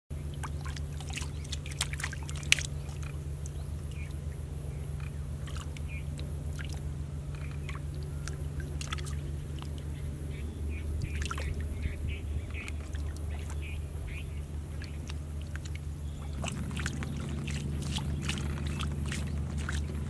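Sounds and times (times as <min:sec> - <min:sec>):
fish splashing in shallow water: 0:00.1 - 0:20.0
steady low hum: 0:00.1 - 0:20.0.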